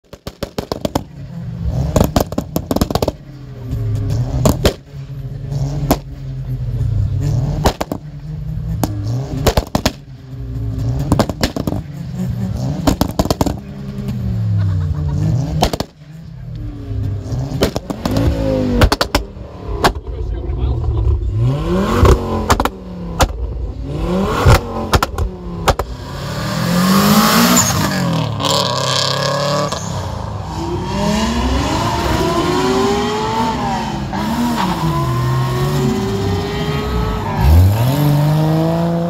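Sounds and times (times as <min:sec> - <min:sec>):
exhaust bangs and crackles: 0:00.0 - 0:39.0
car engine revving: 0:00.1 - 0:39.0.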